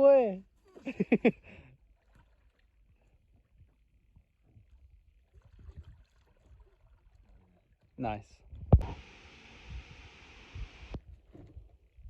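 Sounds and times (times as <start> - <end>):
water and paddle sounds: 0.0 - 12.0.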